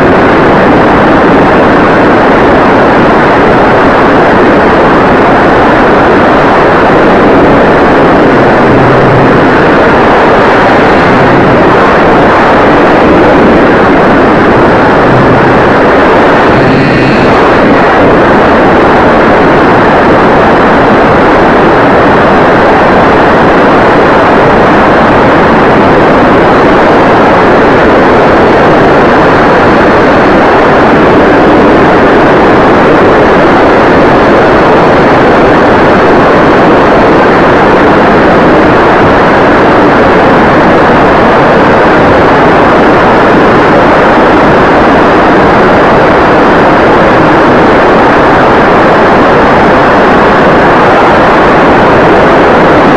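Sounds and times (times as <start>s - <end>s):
faint high whine: 0.0s - 52.9s
wind rush and propeller noise: 0.0s - 52.9s.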